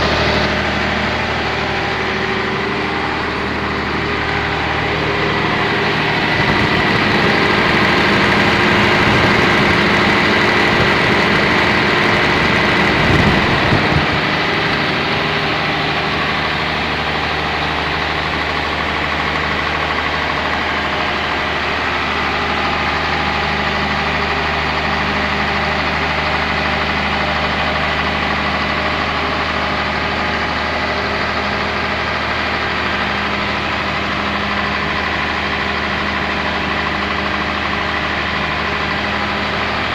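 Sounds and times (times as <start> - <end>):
diesel generator droning: 0.0 - 39.9.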